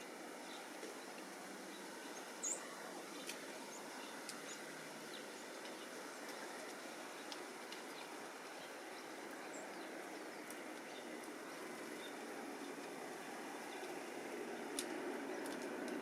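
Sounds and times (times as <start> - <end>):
outdoor background noise: 0.0 - 16.0
songbirds chirping: 0.0 - 16.0.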